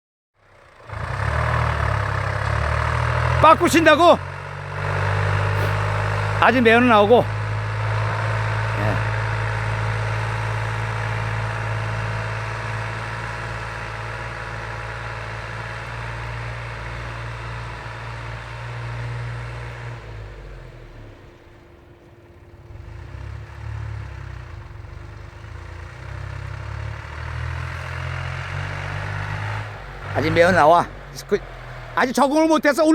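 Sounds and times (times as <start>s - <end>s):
tractor diesel engine running: 0.4s - 32.9s.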